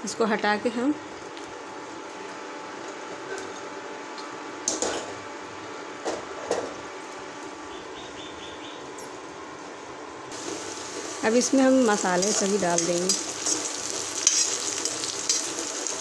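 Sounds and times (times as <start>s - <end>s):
kitchen hum: 0.7s - 16.0s.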